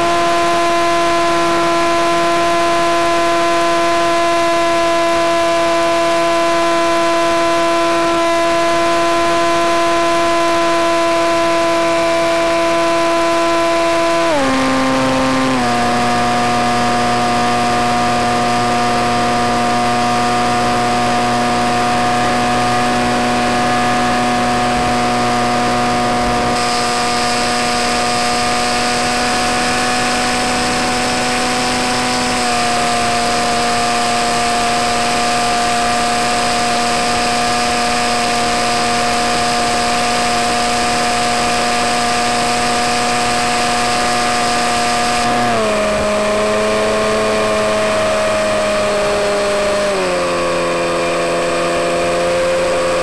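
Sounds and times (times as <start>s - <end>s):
model plane motor whine: 0.0s - 53.0s.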